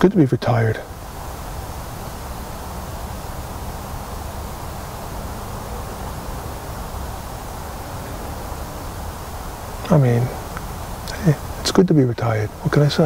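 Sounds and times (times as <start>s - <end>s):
even hiss: 0.0s - 13.0s.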